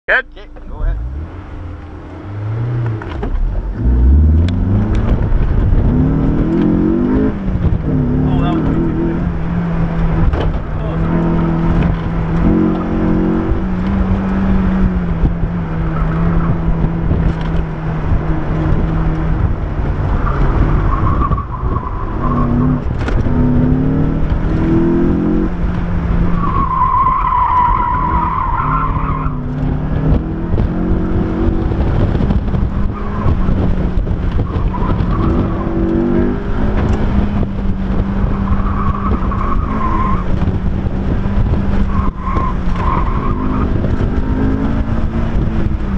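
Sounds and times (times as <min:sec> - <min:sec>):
car engine revving: 0:00.1 - 0:45.9.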